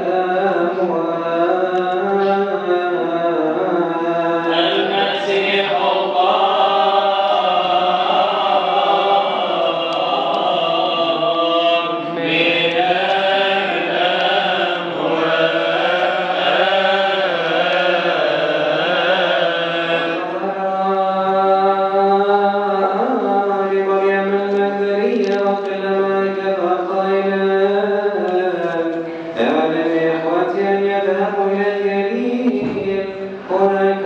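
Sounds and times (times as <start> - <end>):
man chanting over loudspeakers: 0.0 - 34.0.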